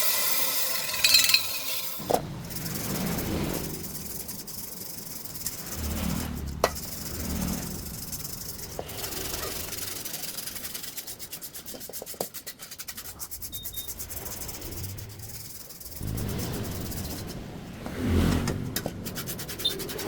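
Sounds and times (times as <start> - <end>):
rapid rubbing strokes on a surface: 2.2 - 20.0.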